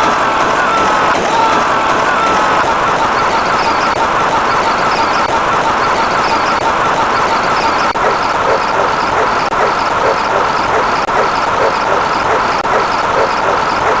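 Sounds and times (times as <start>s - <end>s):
dense din of sound effects: 0.0s - 14.0s
quick repeating pattern: 0.0s - 14.0s.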